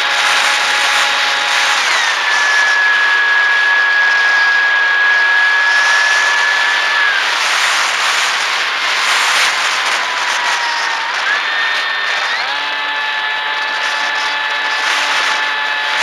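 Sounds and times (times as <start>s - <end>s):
electric motor and propeller whine: 0.0s - 16.0s
wind rush on microphone: 0.0s - 16.0s.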